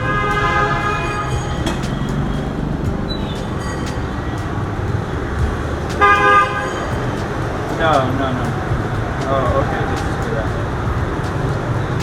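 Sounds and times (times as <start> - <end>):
street traffic: 0.0 - 12.0
vehicle horn honking: 0.0 - 12.0.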